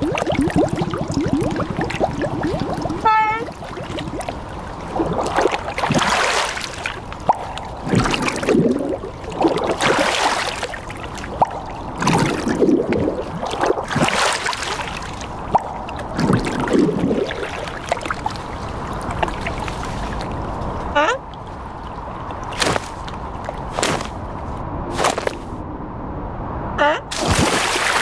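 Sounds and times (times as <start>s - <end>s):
small clicks and drips: 0.0s - 24.0s
water sloshing and splashing: 0.0s - 25.6s, 27.1s - 28.0s.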